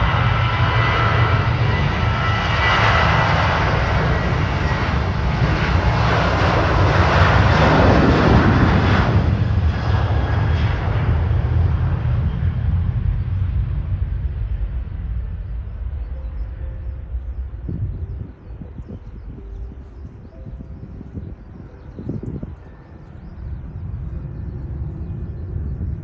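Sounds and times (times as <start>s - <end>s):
jet engine roar: 0.0s - 26.0s
steady low rumble: 0.0s - 26.0s.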